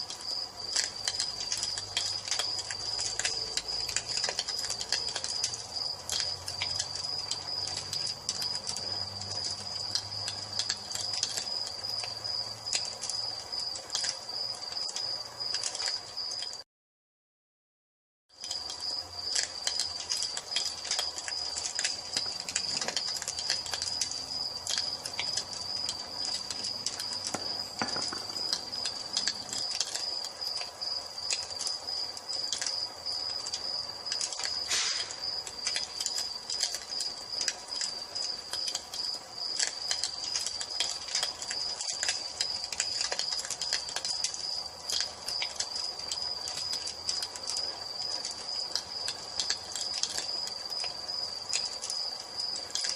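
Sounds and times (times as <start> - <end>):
cricket trill: 0.0 - 16.6, 18.4 - 52.9
wood fire crackling: 0.0 - 16.6, 18.3 - 52.9.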